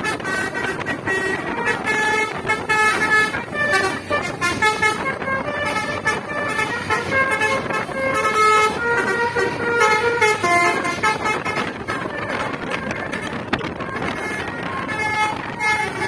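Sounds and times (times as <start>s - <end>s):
musical bus horn playing tune: 0.0s - 16.0s.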